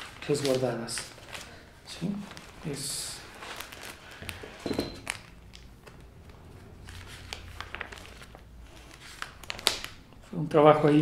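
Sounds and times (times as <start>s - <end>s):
paper pages rustling: 0.0s - 10.1s, 10.7s - 11.0s.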